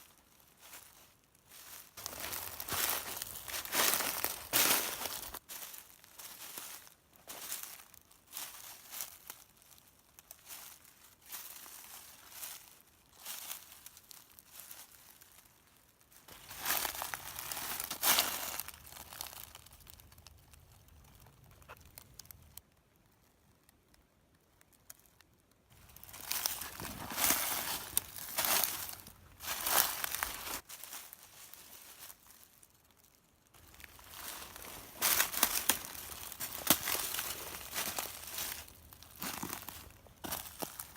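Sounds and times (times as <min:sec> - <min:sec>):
footsteps crunching dry leaves: 0:00.0 - 0:20.1, 0:25.7 - 0:40.9.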